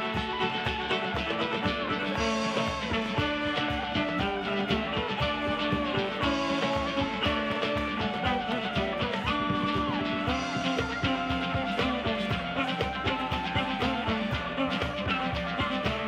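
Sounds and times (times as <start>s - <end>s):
dance band playing: 0.0s - 16.0s.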